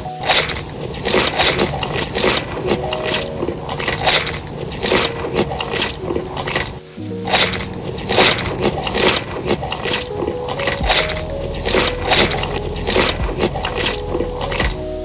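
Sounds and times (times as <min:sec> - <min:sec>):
wet chewing and biting: 0:00.0 - 0:14.8.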